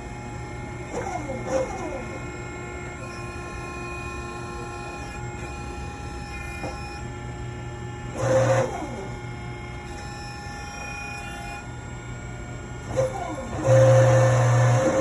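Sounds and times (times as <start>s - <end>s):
tire changing machine humming: 0.0s - 15.0s.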